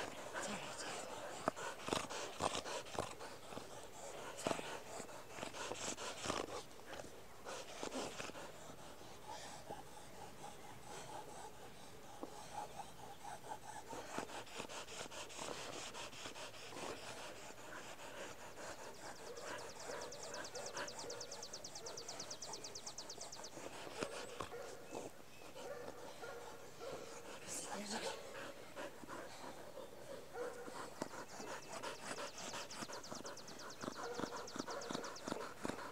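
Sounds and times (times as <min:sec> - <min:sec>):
dog panting: 0:00.0 - 0:35.9.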